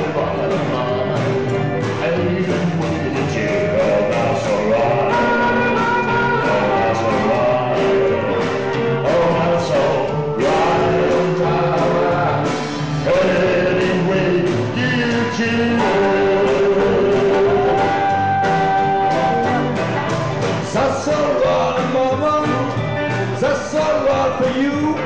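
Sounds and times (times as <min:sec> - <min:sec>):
men singing: 0:00.0 - 0:19.7, 0:20.6 - 0:25.0
drums: 0:00.0 - 0:25.0
electric guitar: 0:00.0 - 0:25.0
upright double bass: 0:00.0 - 0:25.0.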